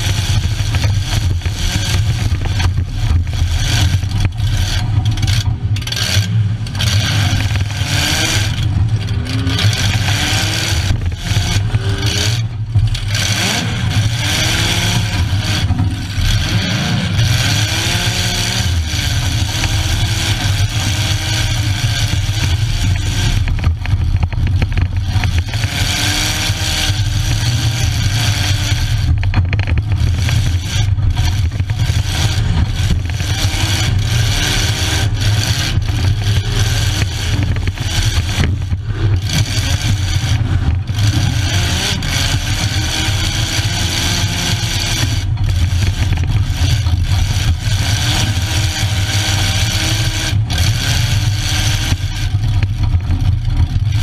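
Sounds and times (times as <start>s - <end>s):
car engine revving: 0.0s - 54.0s
knocks and rattles: 0.0s - 54.0s.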